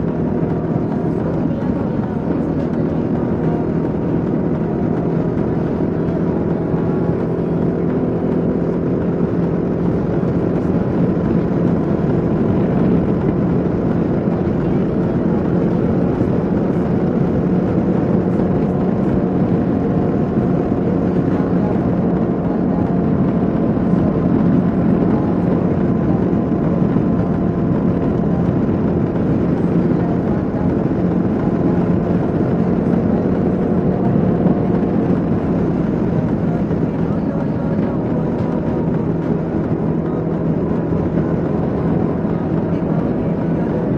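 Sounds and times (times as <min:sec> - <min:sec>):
motorcycle engine cruising: 0:00.0 - 0:43.9
wind rushing over microphone: 0:00.0 - 0:43.9.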